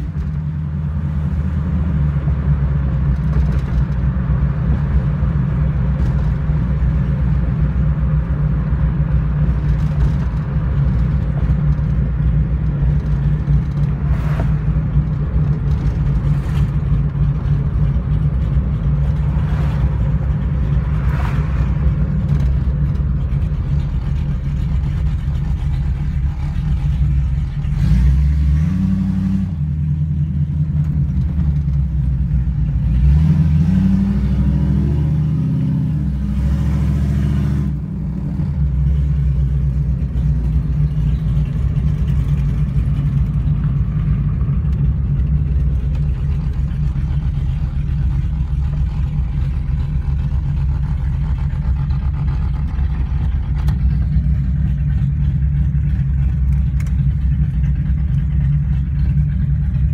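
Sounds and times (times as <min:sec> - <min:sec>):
car engine droning from inside cabin: 0:00.0 - 0:59.9.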